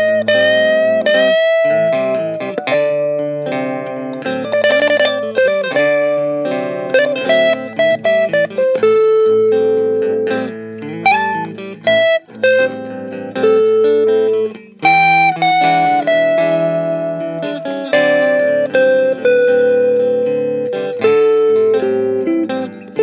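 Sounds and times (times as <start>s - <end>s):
electric guitar melody: 0.0s - 23.0s.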